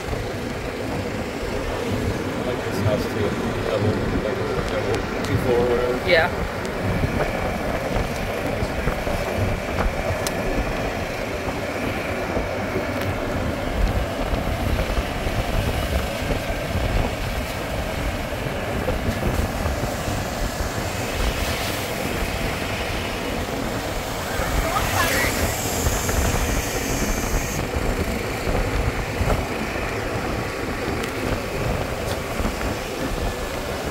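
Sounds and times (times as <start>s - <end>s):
golf cart rumbling: 0.0s - 33.9s.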